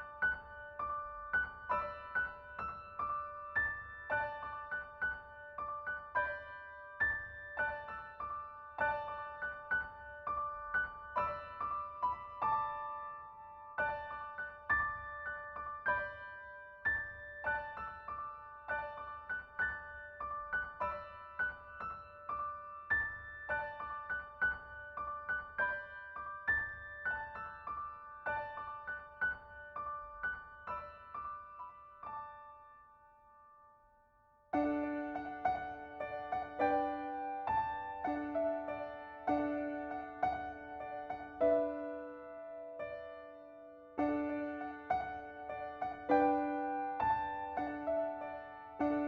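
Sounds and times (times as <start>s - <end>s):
piano music: 0.0s - 49.0s.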